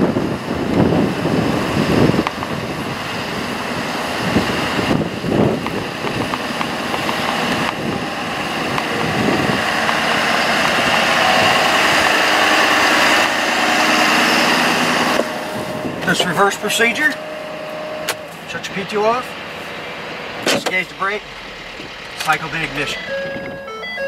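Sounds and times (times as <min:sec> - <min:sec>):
wind buffeting microphone: 0:00.0 - 0:18.1, 0:21.0 - 0:23.8
truck engine running: 0:00.0 - 0:24.0.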